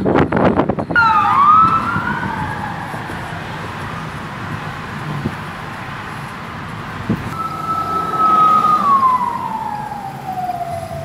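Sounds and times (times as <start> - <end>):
low road noise: 0.0 - 11.0
emergency vehicle siren wailing: 0.8 - 11.0.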